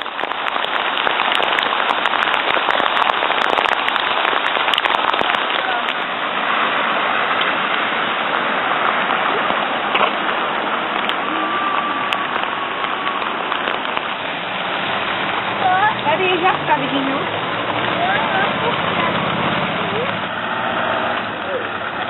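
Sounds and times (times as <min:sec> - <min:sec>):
shower water spraying on raincoat: 0:00.0 - 0:22.0.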